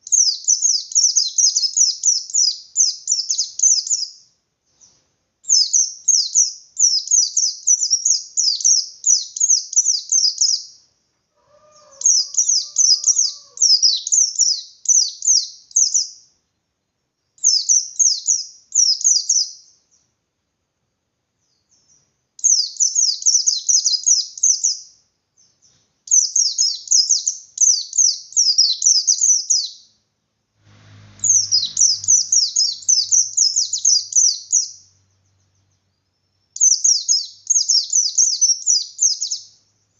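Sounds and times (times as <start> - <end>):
bird singing rapid high chirps: 0.0 - 10.9, 11.7 - 16.3, 17.4 - 20.1, 21.5 - 30.0, 31.0 - 39.9.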